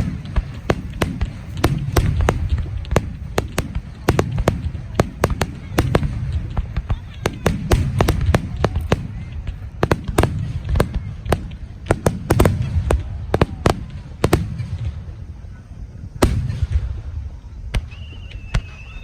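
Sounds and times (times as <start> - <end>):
fireworks cracking and popping: 0.0 - 15.5
low rumble of fireworks booms: 0.0 - 19.0.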